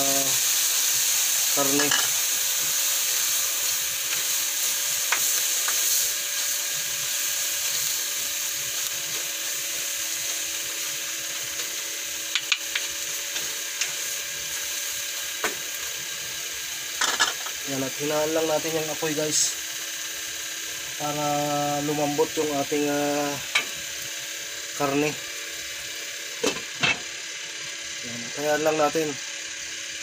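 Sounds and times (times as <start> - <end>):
meat sizzling in a wok: 0.0 - 30.0.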